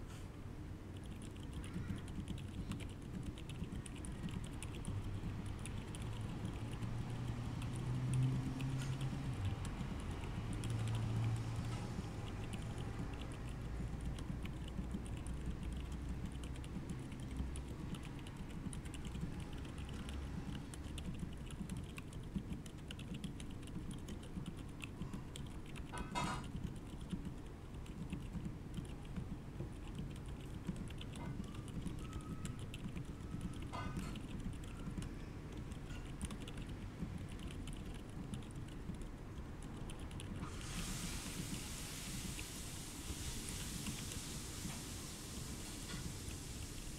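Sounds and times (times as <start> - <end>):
fast typing on mechanical keyboard: 0.9 - 40.7.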